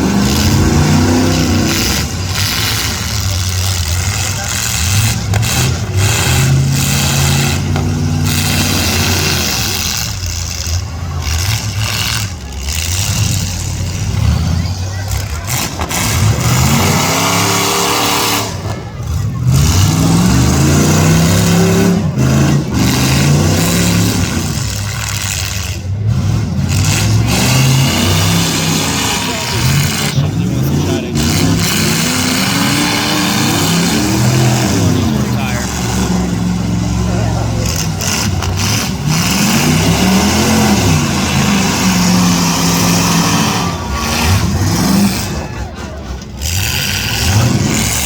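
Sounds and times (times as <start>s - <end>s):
car engines revving hard: 0.0s - 48.0s.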